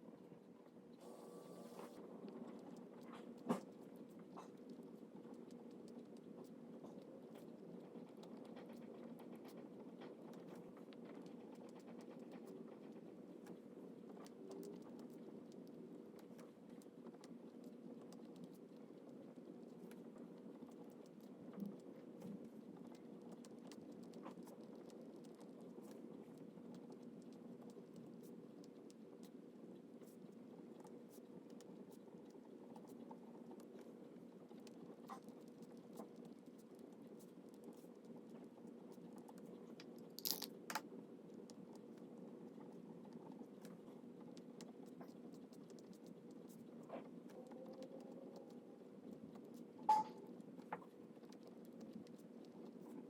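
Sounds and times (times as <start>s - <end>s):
faint room hum: 0.0s - 53.0s.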